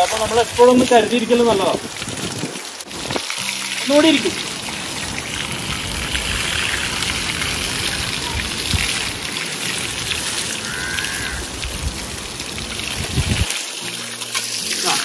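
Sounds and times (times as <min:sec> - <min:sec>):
hose water spraying and splashing: 0:00.0 - 0:15.0.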